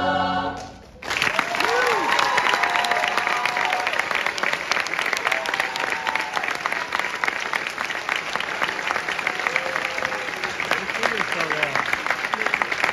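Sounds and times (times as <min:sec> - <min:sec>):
audience clapping: 0:00.6 - 0:12.9
audience cheering: 0:01.0 - 0:12.9.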